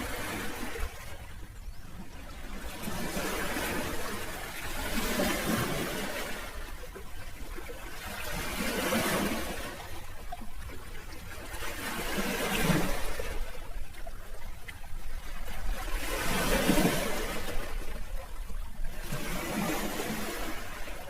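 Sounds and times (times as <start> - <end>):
sea waves rushing: 0.0 - 1.4, 2.4 - 10.3, 11.0 - 13.8, 15.3 - 21.0.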